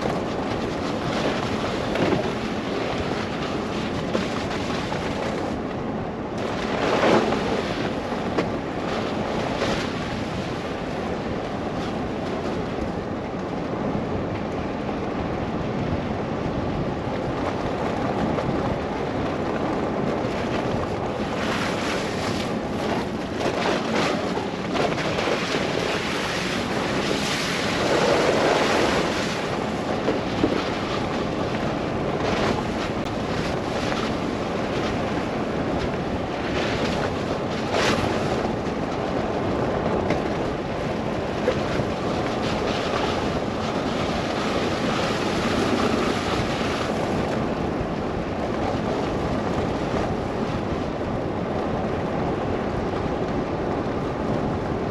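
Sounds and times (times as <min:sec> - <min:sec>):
wind and car road noise: 0:00.0 - 0:54.9.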